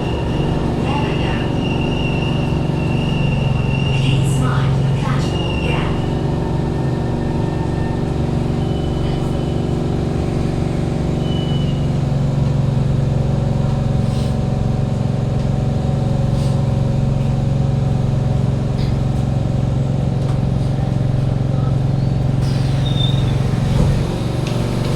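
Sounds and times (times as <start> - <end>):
train air-conditioning hum: 0.0 - 24.9.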